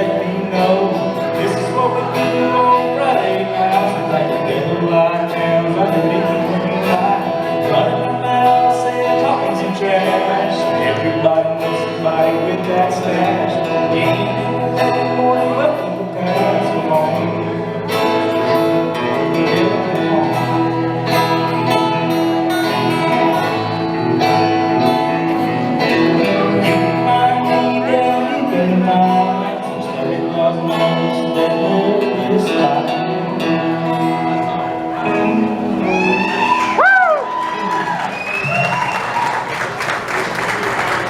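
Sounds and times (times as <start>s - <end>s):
person singing: 0.0s - 38.7s
country band playing: 0.0s - 41.0s.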